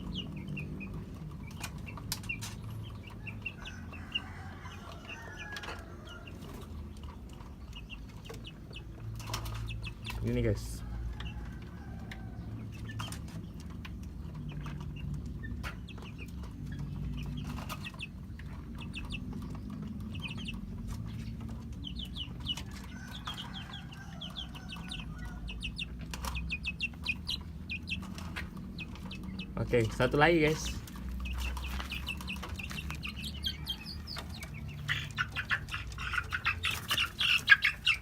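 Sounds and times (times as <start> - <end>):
chicks cheeping and clucking: 0.0 - 38.0.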